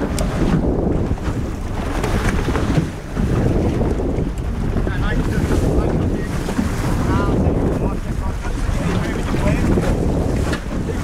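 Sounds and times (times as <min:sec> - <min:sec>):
water rushing and splashing: 0:00.0 - 0:11.0
wind buffeting microphone: 0:00.0 - 0:11.0.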